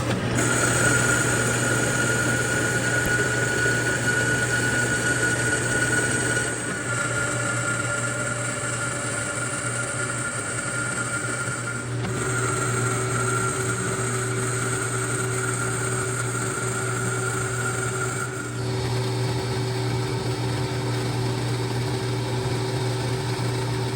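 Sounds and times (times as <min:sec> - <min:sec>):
low motor hum: 0:00.0 - 0:23.9
machine tool high whine: 0:00.0 - 0:23.9.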